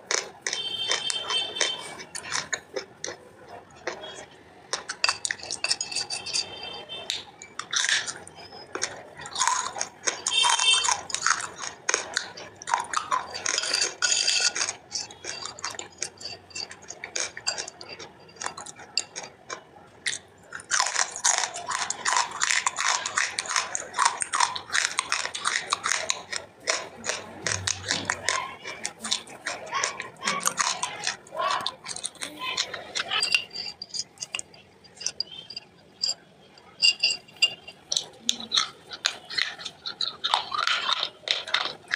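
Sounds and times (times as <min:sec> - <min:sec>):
chewing wet clay paste: 0:00.0 - 0:41.9.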